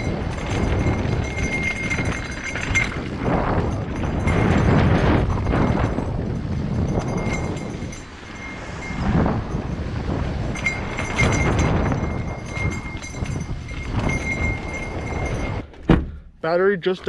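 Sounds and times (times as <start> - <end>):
wind on microphone: 0.0 - 16.0
bike tyres rumbling over dirt: 0.0 - 16.2
wheels knocking on wooden planks: 0.0 - 16.2
bike rattling: 0.0 - 17.0.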